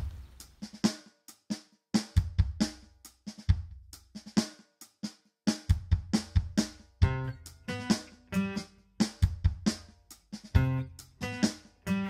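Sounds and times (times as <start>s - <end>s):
drum kit playing a beat: 0.0s - 12.0s.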